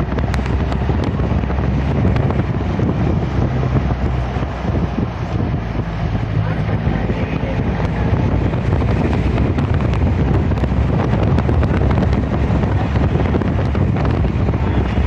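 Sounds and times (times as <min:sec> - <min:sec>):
moving vehicle rumble: 0:00.0 - 0:15.0
wind buffeting microphone: 0:00.0 - 0:15.0.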